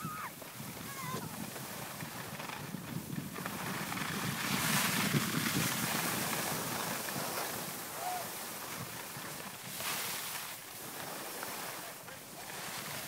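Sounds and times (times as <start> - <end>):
skis sliding over snow: 0.0 - 13.0
wind rushing over microphone: 0.0 - 13.0.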